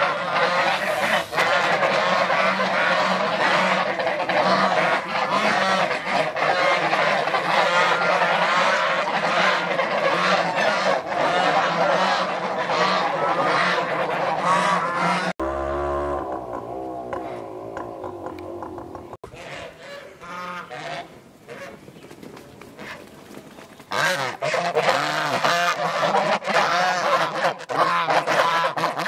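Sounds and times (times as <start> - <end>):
geese honking: 0.0 - 21.8, 23.9 - 29.0.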